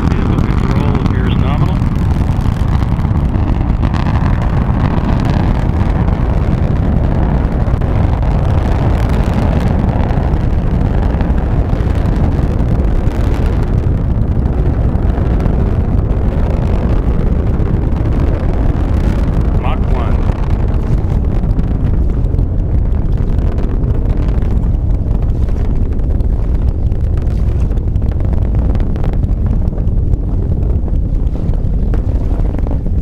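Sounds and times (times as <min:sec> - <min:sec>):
rocket engine deep rumble: 0:00.0 - 0:33.0.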